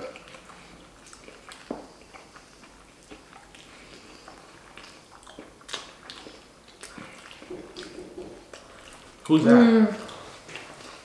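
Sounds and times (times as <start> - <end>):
wet chewing and mouth clicks: 0.0 - 11.0.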